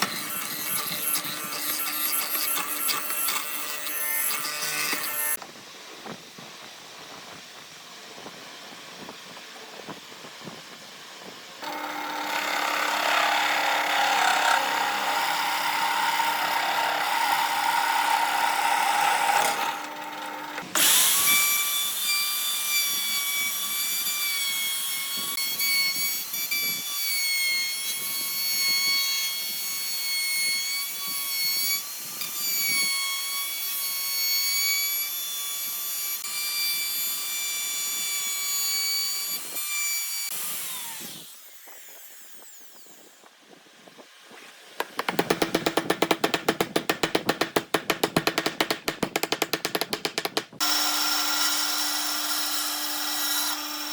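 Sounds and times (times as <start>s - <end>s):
power tool cutting wood: 0.0s - 5.4s, 11.6s - 53.9s
high-pitched power tool whine: 0.0s - 44.7s, 50.6s - 53.9s.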